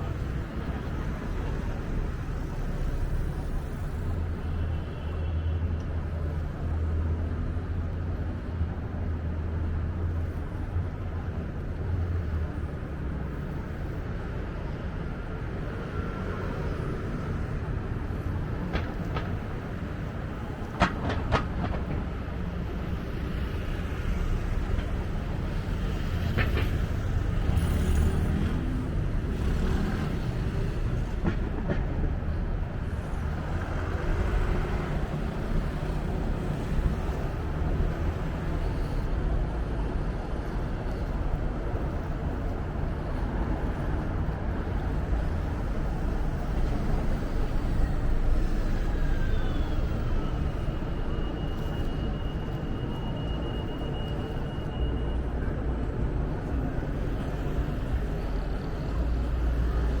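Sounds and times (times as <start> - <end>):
train running on rails: 0.0 - 60.0.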